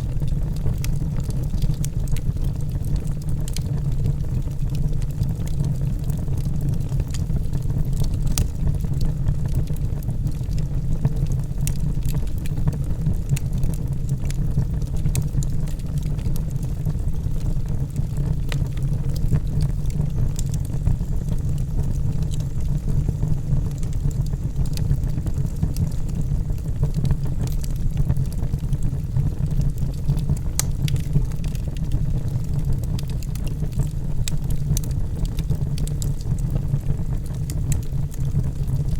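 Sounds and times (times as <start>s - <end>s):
fire crackling and popping: 0.0s - 38.9s
flames rumbling: 0.0s - 38.9s.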